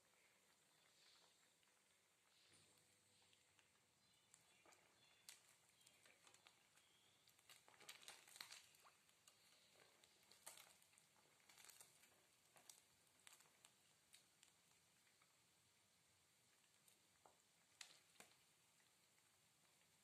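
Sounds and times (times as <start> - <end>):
chicken deep-frying in oil: 0.0 - 0.7, 1.3 - 20.0.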